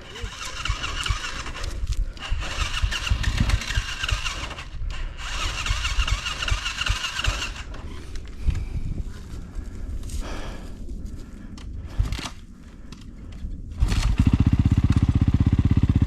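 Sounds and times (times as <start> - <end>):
dirt bike engine running: 0.0 - 11.2, 13.7 - 16.0.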